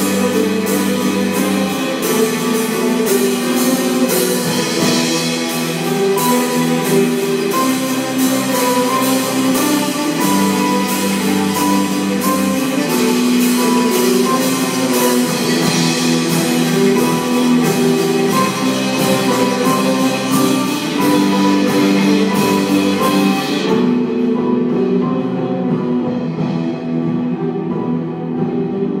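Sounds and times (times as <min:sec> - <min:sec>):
live instrumental band: 0:00.0 - 0:29.0
steady drum beat: 0:00.0 - 0:29.0.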